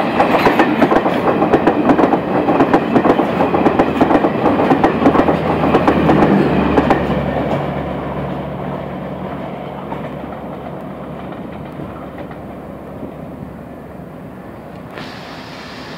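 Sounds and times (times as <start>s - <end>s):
train wheels rumbling on track: 0.0s - 15.9s.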